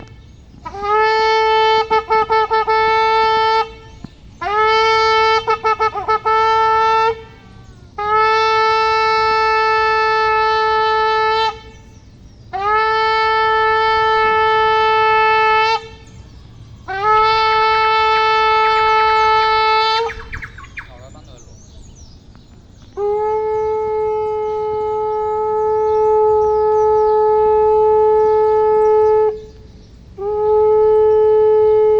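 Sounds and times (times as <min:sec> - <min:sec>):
shofar blasts: 0:00.0 - 0:20.5, 0:23.0 - 0:29.5, 0:30.2 - 0:31.9.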